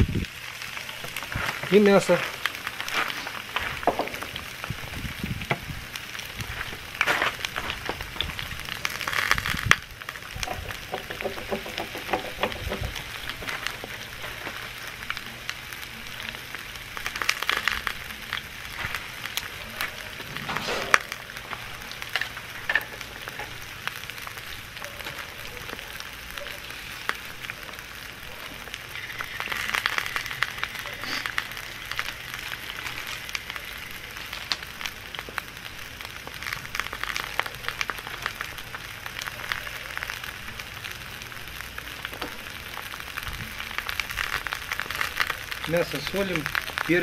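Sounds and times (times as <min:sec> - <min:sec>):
onions and meat sizzling: 0:00.0 - 0:47.0.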